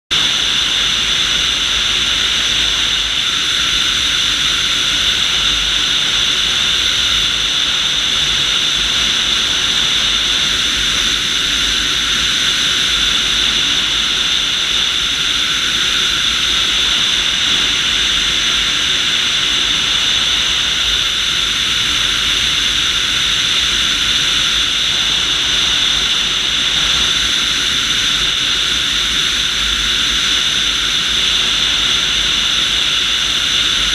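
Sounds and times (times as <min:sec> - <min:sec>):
engine drone: 0:00.1 - 0:33.9
bright steady whine: 0:00.2 - 0:33.9.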